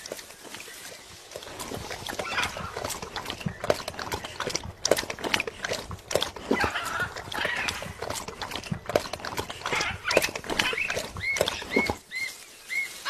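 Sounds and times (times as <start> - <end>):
parrot beak gnawing fruit: 0.0 - 12.0.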